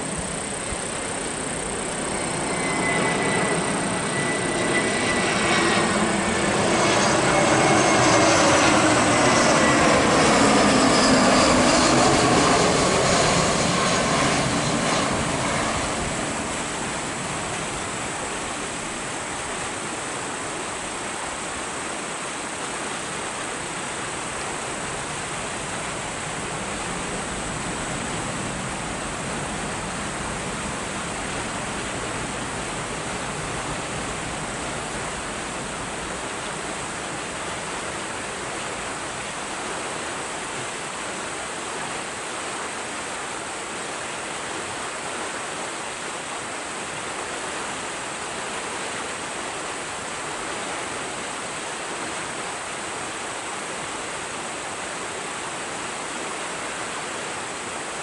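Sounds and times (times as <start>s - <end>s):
airliner engines passing: 0.0s - 58.0s
steady rushing noise: 0.0s - 58.0s.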